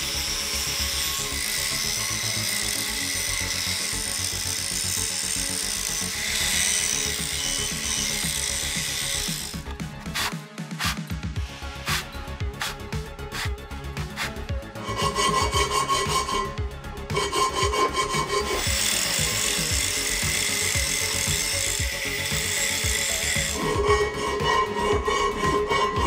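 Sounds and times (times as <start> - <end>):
angle grinder grinding steel: 0.0 - 26.0
background music with steady beat: 0.0 - 26.0.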